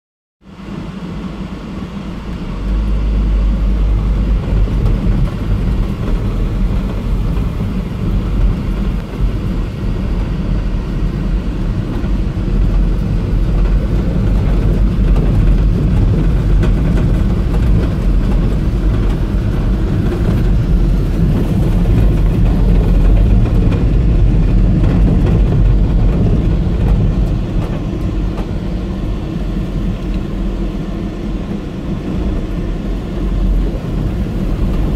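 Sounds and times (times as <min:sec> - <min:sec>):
vehicle engine and ground rumble: 0:00.4 - 0:34.9.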